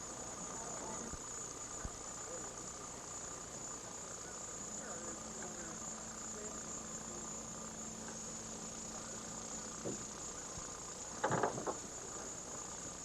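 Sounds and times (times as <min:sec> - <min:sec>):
high-pitched insect trill: 0:00.0 - 0:13.0
low steady hum: 0:00.0 - 0:13.0.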